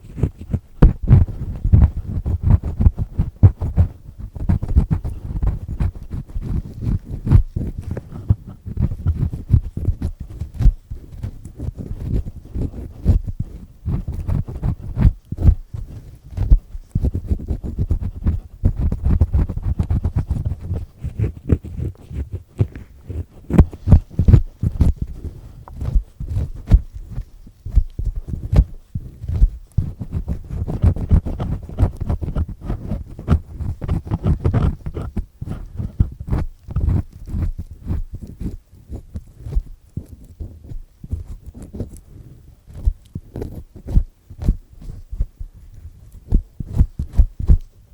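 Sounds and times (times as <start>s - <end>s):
earpick scraping in ear: 0.0s - 47.9s.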